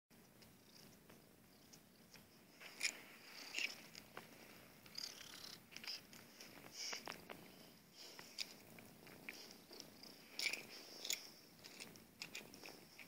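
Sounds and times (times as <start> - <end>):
cat purring: 0.4 - 13.0.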